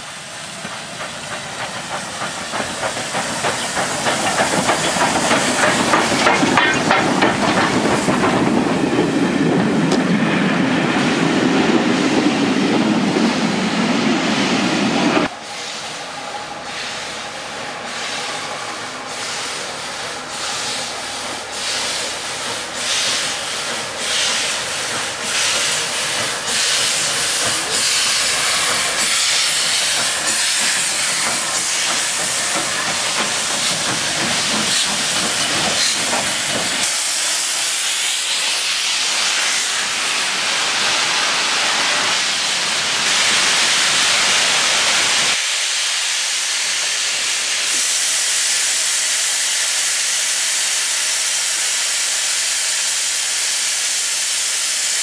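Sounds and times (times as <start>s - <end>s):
railway coaches rumbling past: 0.0s - 55.0s
steam locomotive hissing: 0.0s - 55.0s.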